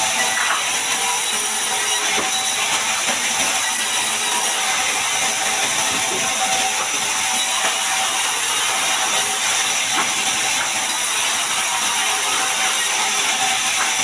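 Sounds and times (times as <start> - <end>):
band sawmill sawing log: 0.0 - 14.0.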